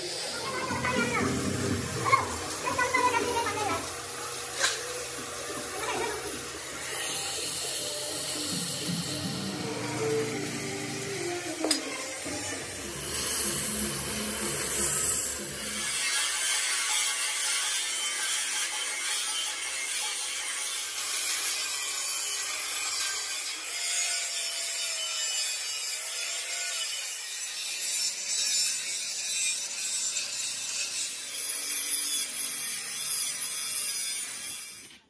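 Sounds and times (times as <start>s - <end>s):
angle grinder cutting steel: 0.0s - 35.0s.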